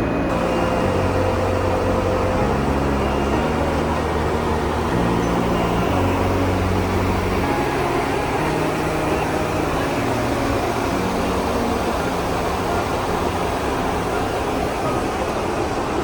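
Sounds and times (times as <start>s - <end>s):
airplane cabin noise in flight: 0.0s - 16.0s
faint low shifting tones: 0.0s - 16.0s.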